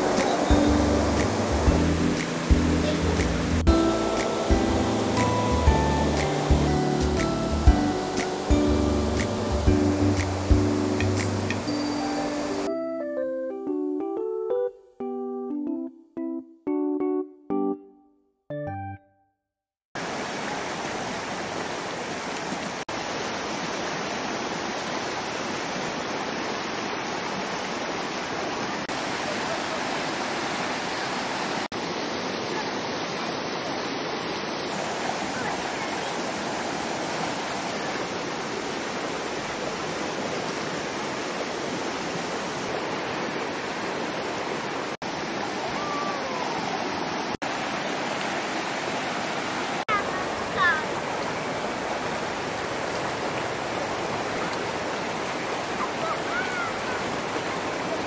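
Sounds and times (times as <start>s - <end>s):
river water rushing: 0.0s - 12.7s, 20.0s - 58.0s.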